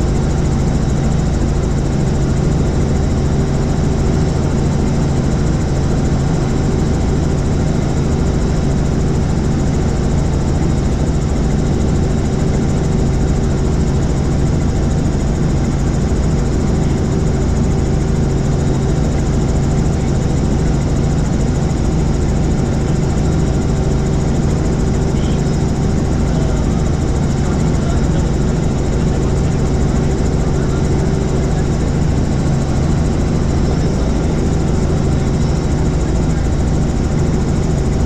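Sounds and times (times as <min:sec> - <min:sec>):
helicopter engine and rotor: 0:00.0 - 0:38.0.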